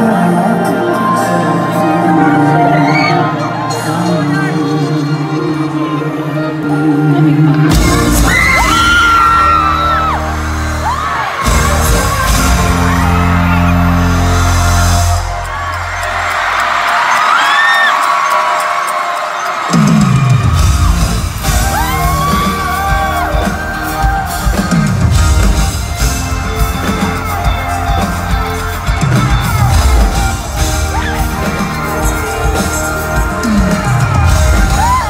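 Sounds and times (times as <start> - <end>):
crowd screaming: 0.0 - 35.0
live pop concert music: 0.0 - 35.0.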